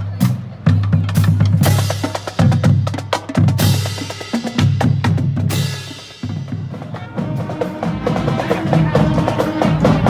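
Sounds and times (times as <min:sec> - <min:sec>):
marching band playing: 0:00.0 - 0:10.0.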